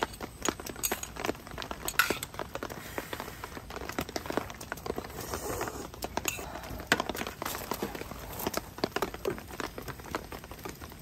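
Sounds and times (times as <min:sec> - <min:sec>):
rain pattering on a tent: 0:00.0 - 0:11.0.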